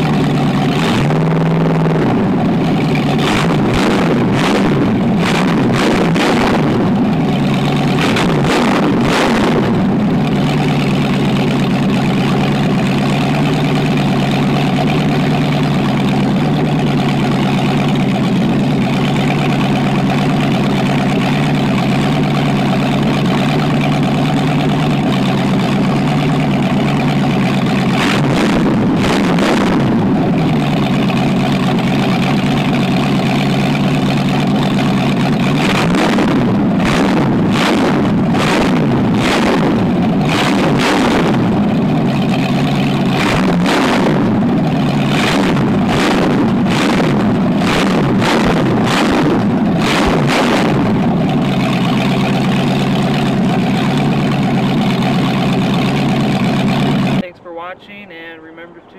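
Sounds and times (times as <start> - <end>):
engine idling and revving: 0.0 - 57.3.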